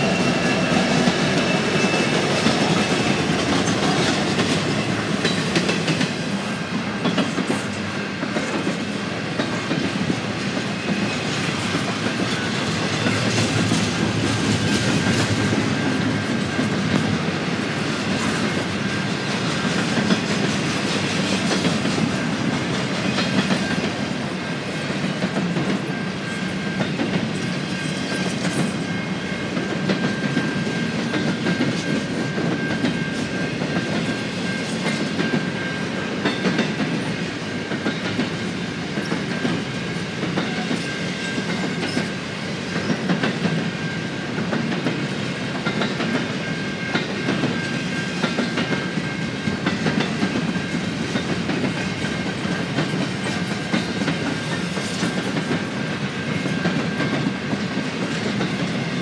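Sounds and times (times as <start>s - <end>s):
train cars rumbling past: 0.0s - 59.0s
wheels clicking on rails: 0.0s - 59.0s.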